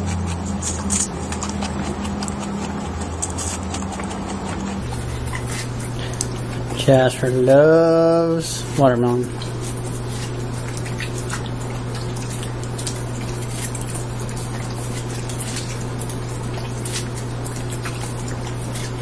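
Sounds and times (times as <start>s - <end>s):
dog chewing watermelon: 0.0s - 19.0s
low hum: 0.0s - 19.0s.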